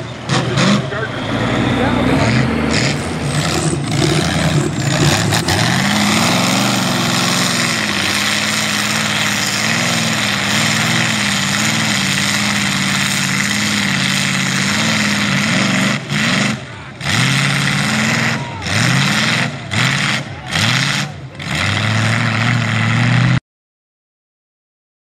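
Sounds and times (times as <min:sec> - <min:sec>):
truck engine revving in mud: 0:00.0 - 0:23.4.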